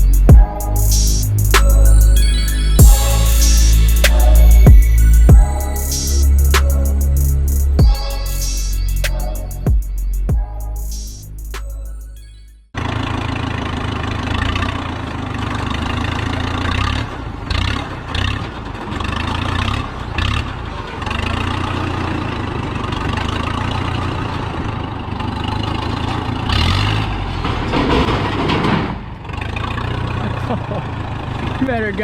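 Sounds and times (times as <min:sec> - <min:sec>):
heavy engine running: 0:00.0 - 0:12.2, 0:12.8 - 0:32.0.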